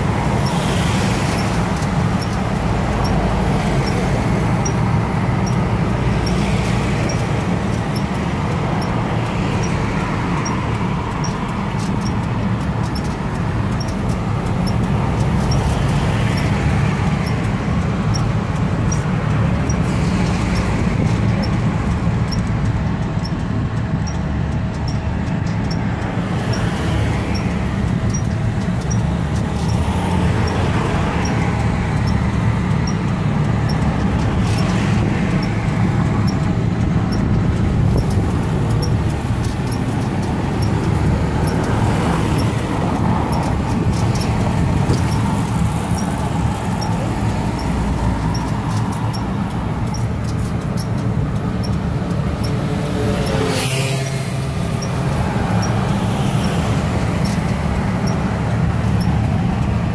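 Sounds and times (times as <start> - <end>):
cars passing: 0.0 - 59.9
road noise rumble: 0.0 - 59.9.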